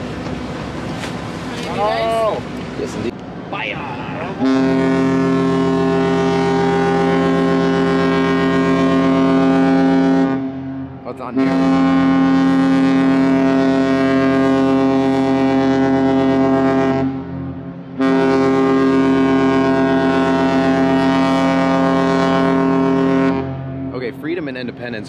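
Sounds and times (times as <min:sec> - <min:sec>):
ship horn blasts: 0:04.2 - 0:24.2.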